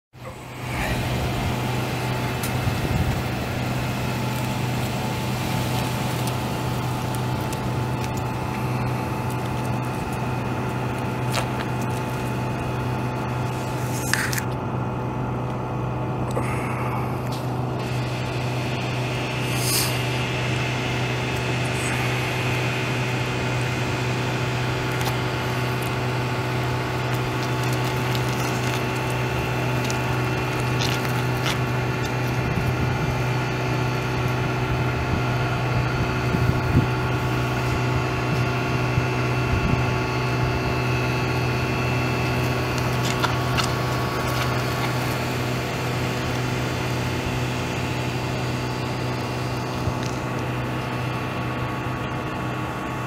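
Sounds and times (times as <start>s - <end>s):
truck engine idling: 0.1s - 53.0s.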